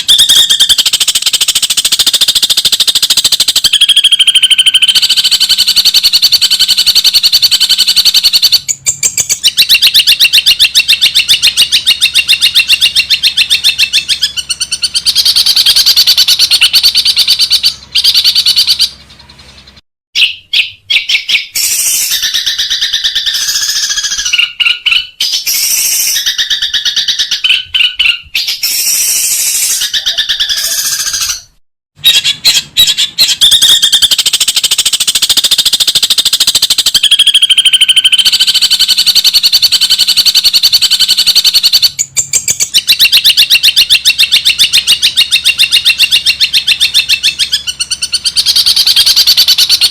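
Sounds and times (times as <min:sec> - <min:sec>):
shrike singing rattling trills: 0:00.0 - 0:49.9.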